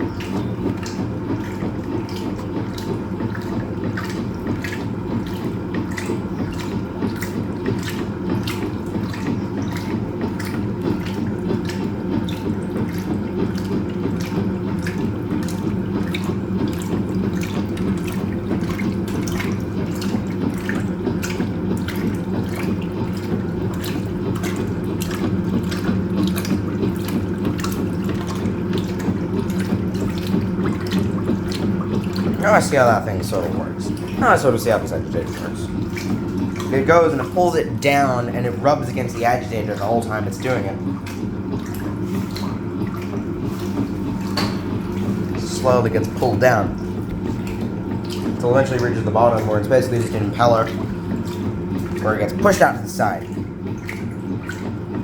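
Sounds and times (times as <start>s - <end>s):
washing machine motor hum: 0.0s - 55.0s
water sloshing in washing machine: 0.0s - 55.0s.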